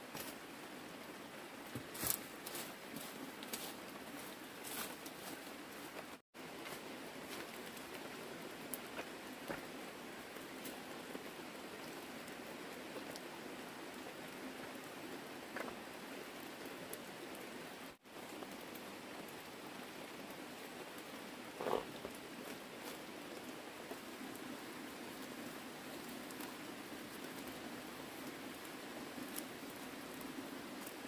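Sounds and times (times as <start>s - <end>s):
rustle: 0.0s - 31.0s
steady rain falling: 0.0s - 31.0s.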